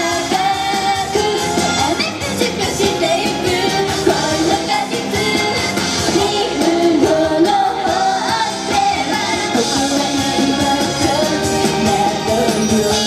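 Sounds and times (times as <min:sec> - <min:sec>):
girls singing into microphones: 0:00.0 - 0:13.0
pop backing music: 0:00.0 - 0:13.0.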